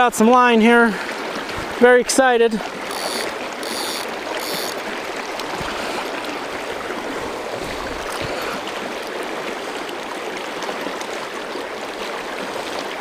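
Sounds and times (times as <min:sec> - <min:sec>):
river water rushing: 0:00.2 - 0:13.0.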